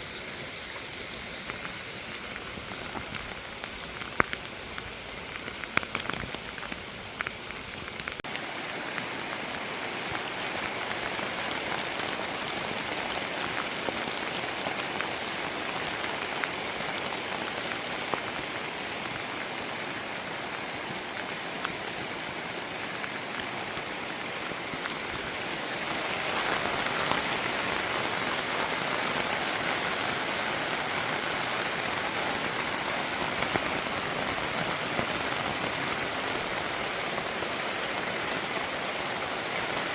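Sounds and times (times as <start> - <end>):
steady rainfall hiss: 0.0 - 39.9
raindrops tapping: 0.7 - 19.5, 23.0 - 38.7.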